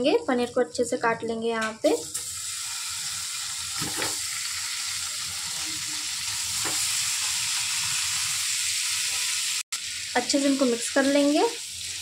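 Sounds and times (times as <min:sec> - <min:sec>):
cheese sizzling in butter: 0:02.0 - 0:12.0.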